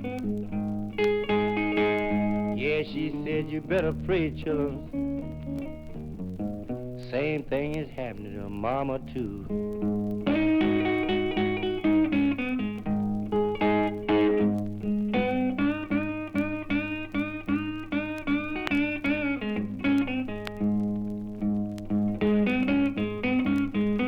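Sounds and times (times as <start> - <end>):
blues guitar with bent notes: 0.0 - 24.0.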